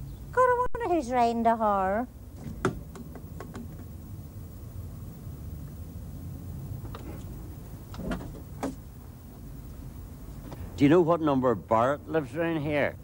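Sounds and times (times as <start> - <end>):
low background rumble and hiss: 0.0 - 13.0.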